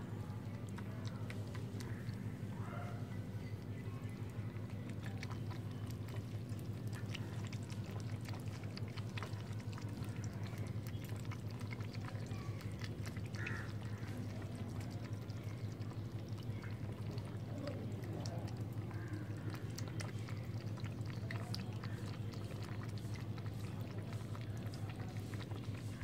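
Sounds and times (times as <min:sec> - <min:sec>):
kittens lapping milk: 0:00.0 - 0:26.0.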